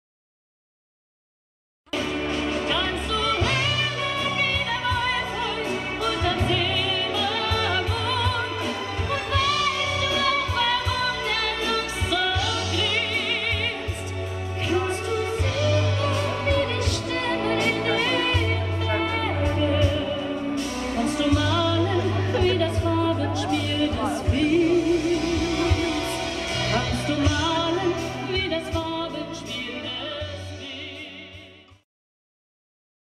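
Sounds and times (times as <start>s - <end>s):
backing track with deep bass: 2.0s - 31.7s
person singing with vibrato: 2.0s - 31.7s.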